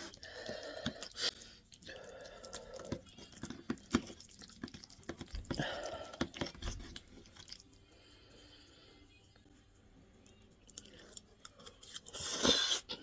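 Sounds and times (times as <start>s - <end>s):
person chewing food: 0.0s - 8.7s, 10.2s - 13.0s.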